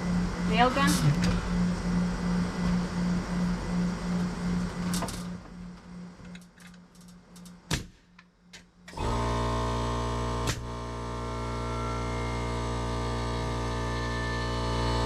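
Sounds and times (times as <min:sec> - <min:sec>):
pulsing low hum: 0:00.0 - 0:15.0.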